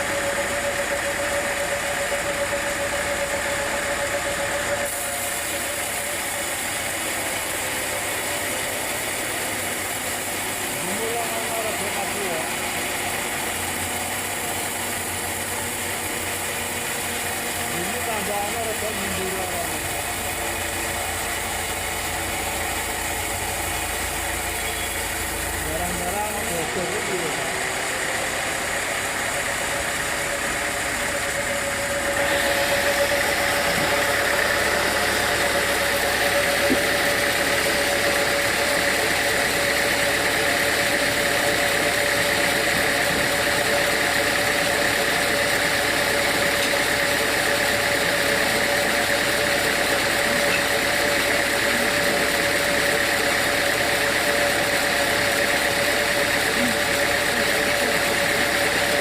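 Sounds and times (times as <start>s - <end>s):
high-pitched machine whine: 0.0s - 59.0s
sawmill machinery humming: 0.0s - 59.0s.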